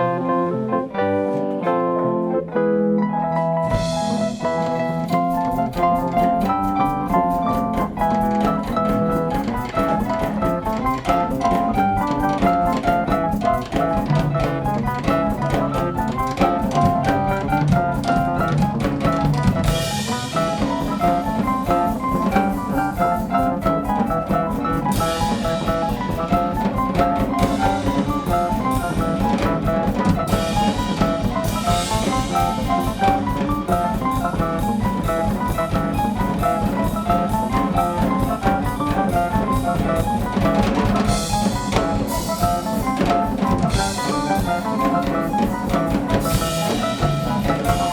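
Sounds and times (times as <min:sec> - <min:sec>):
live band music: 0:00.0 - 0:47.9.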